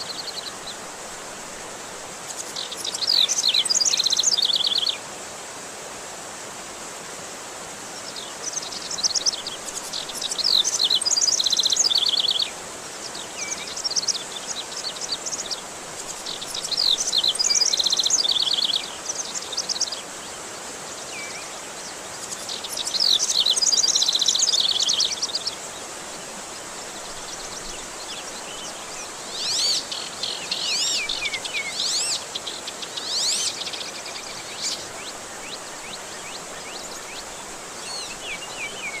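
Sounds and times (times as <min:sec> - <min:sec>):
running water: 0:00.0 - 0:39.0
songbird chirping: 0:02.2 - 0:05.0, 0:07.9 - 0:39.0.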